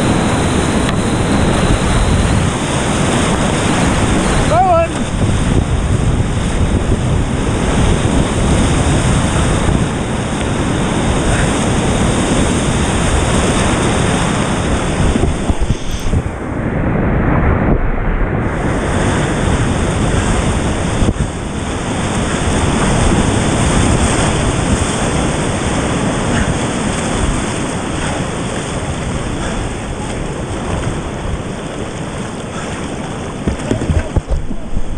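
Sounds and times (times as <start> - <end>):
whitewater rushing and splashing: 0.0 - 16.6, 17.2 - 34.9.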